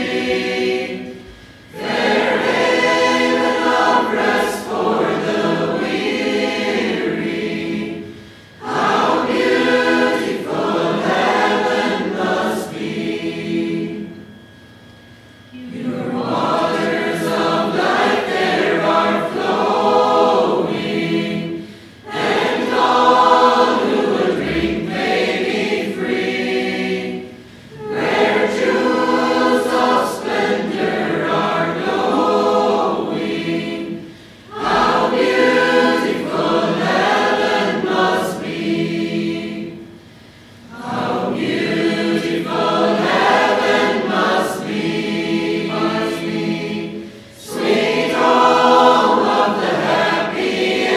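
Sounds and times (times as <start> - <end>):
choir singing: 0.0 - 14.5, 15.5 - 40.0, 40.6 - 50.9.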